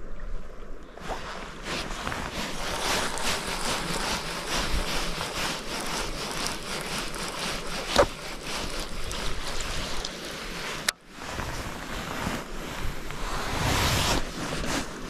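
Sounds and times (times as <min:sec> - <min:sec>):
water rushing at shore: 0:01.0 - 0:15.0.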